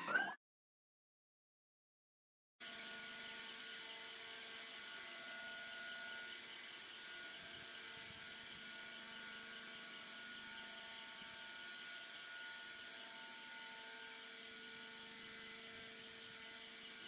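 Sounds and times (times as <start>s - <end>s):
faint machinery hum with tones: 2.6s - 17.0s.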